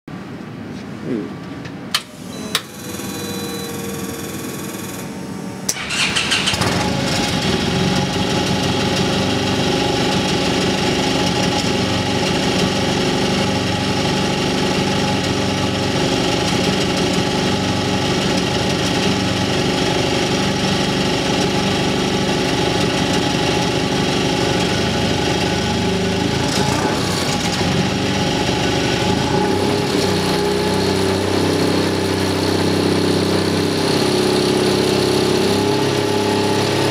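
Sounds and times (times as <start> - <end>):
electric starter whining: 1.9 - 36.9
aircraft engine running: 2.1 - 36.9.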